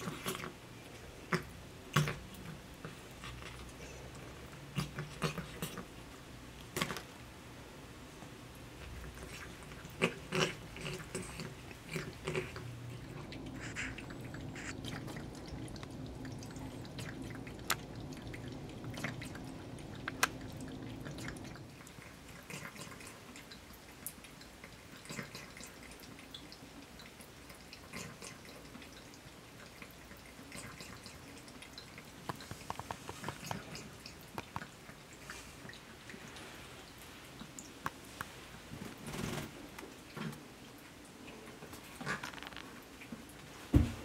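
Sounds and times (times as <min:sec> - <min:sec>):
cats lapping water: 0:00.0 - 0:44.0.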